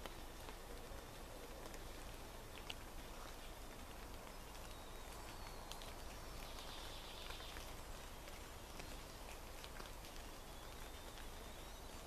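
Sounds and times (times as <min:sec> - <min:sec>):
light ticks: 0:01.6 - 0:11.4.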